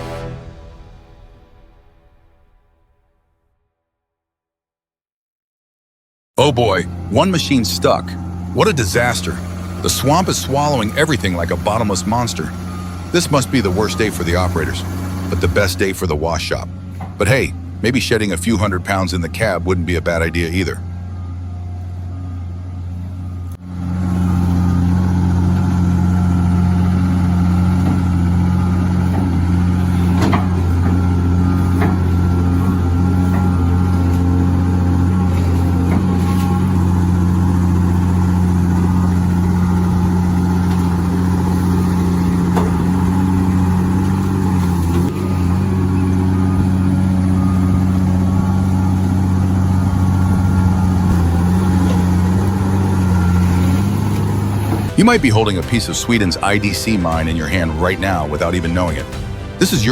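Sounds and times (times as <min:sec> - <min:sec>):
heavy machinery engine running: 0:00.0 - 0:01.6, 0:06.4 - 0:59.9.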